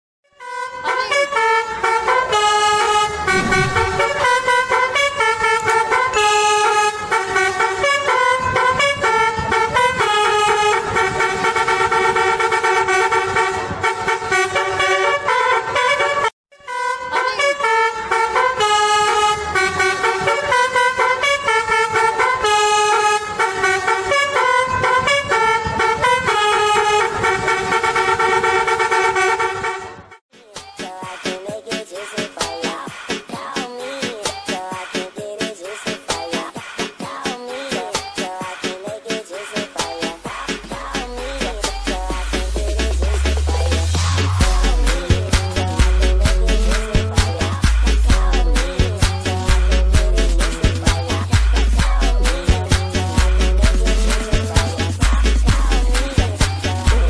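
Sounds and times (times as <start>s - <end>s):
multi-tone bus horn melody: 0.3s - 30.2s, 31.9s - 57.0s.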